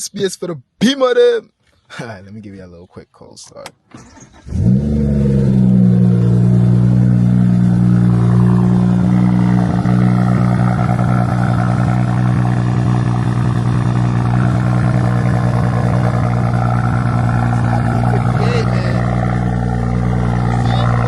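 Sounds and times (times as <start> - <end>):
car engine idling: 4.0 - 21.0.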